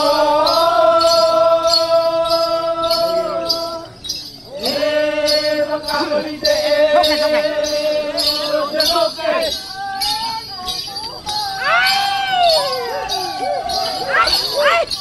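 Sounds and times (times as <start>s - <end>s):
bells jingling in a beat: 0.0s - 15.0s.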